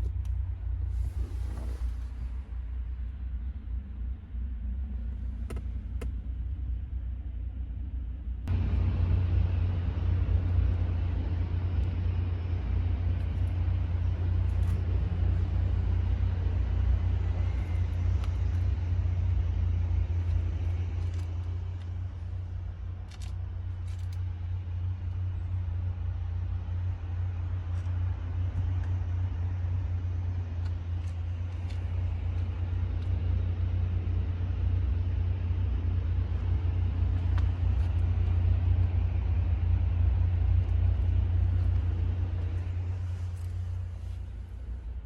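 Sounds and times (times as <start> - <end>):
car engine rumbling: 0.0 - 45.0.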